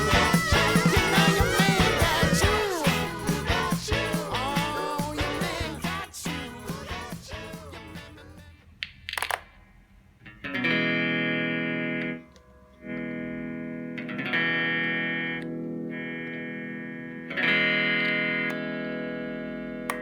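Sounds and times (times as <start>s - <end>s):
distorted electric guitar chords: 0.0s - 8.4s, 10.4s - 20.0s.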